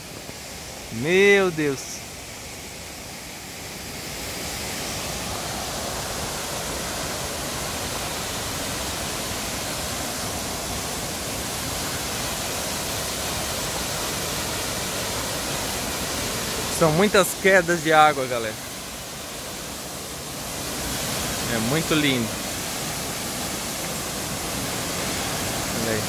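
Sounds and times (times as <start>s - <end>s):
waterfall rushing into pools: 0.0s - 26.0s.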